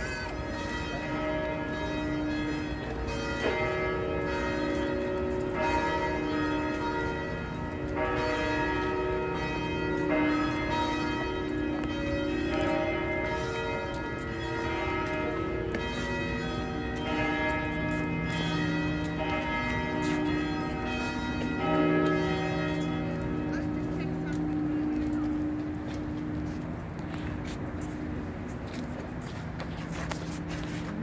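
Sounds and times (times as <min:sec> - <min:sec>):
church bells pealing: 0:00.0 - 0:31.0.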